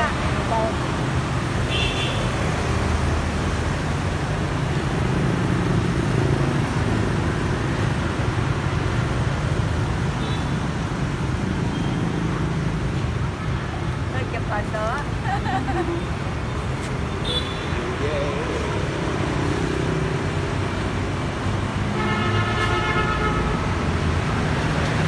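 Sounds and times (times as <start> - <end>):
motorbikes passing: 2.3 - 25.0.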